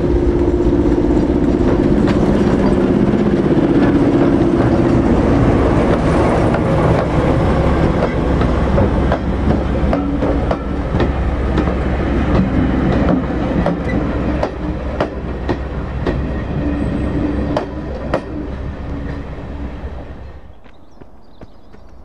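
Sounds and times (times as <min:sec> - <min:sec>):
low rumble of rolling coaches: 0:00.0 - 0:21.2
train wheels clicking on rails: 0:00.0 - 0:22.0.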